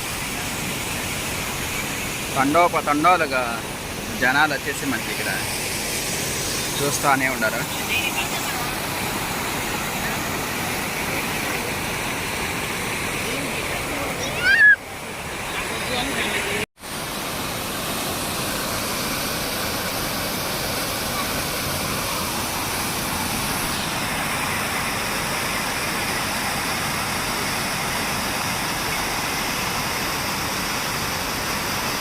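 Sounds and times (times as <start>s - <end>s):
floodwater rushing over dam: 0.0s - 32.0s.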